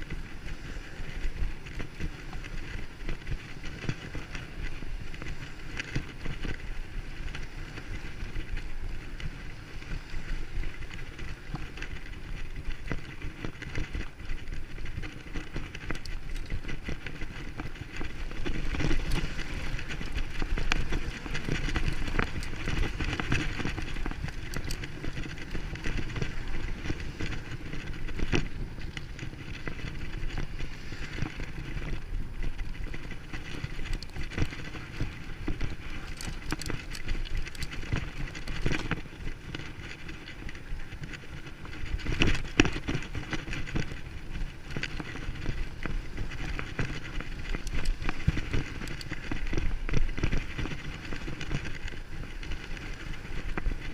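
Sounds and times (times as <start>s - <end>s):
bicycle rumbling and rattling: 0.0s - 53.9s.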